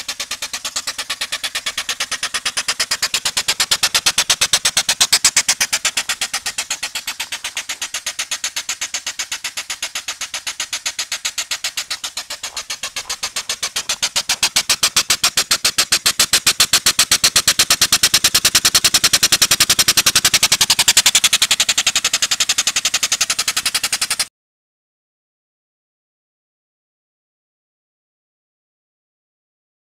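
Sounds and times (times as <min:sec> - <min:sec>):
steam engine puffing rapidly: 0:00.0 - 0:24.3.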